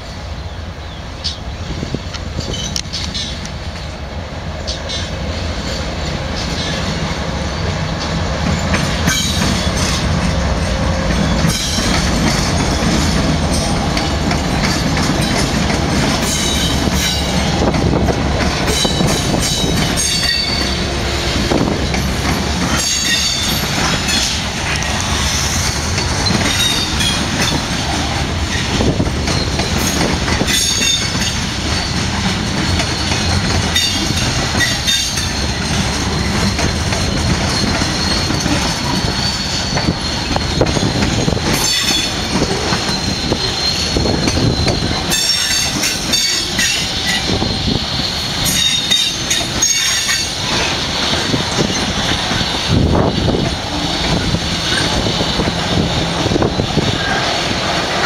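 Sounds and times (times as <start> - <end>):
diesel locomotives rumbling: 0.0 - 58.0
train wheels clicking on rail joints: 1.2 - 58.0.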